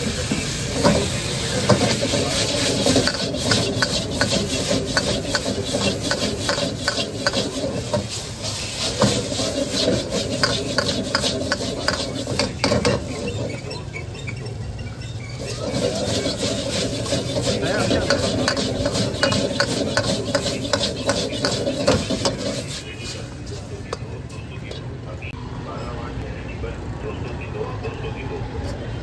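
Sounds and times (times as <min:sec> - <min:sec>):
gas burner roaring: 0:00.0 - 0:25.2
metal ladle scraping a wok: 0:00.4 - 0:24.1.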